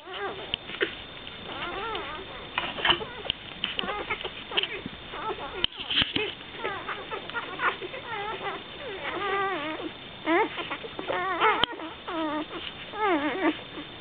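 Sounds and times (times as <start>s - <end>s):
puppies squeaking and whining: 0.0s - 14.0s.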